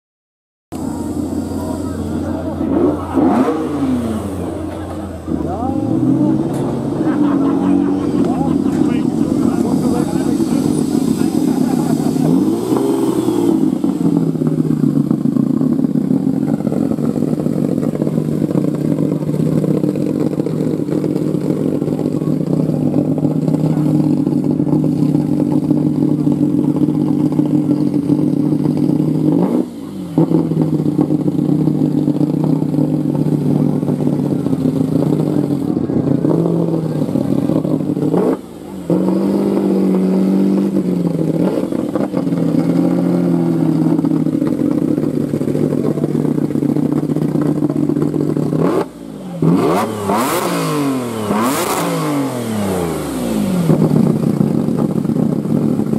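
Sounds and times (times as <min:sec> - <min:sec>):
car engine idling loudly: 0:00.7 - 0:55.9.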